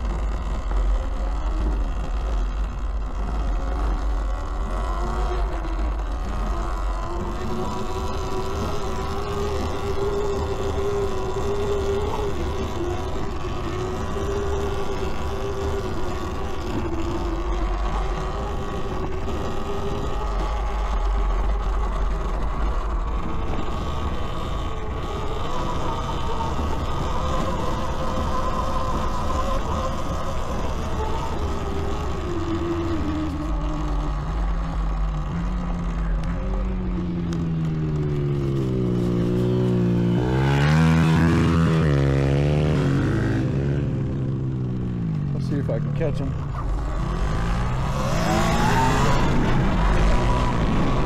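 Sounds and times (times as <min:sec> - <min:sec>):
electric motor whine: 0:00.0 - 0:51.0
rush of riding noise: 0:00.0 - 0:51.0
wind rumble on microphone: 0:00.0 - 0:51.0.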